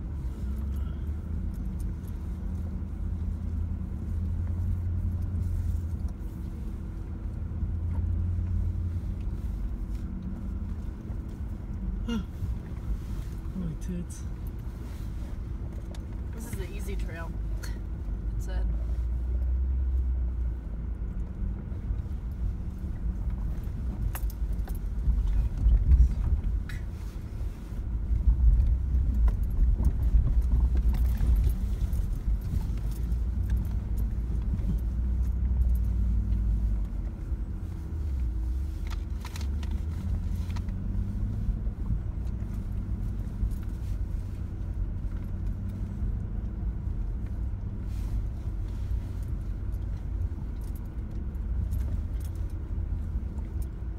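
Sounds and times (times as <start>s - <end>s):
rattles in car cabin: 0.0s - 19.3s, 20.4s - 53.9s
engine and drivetrain rumble: 0.0s - 53.9s.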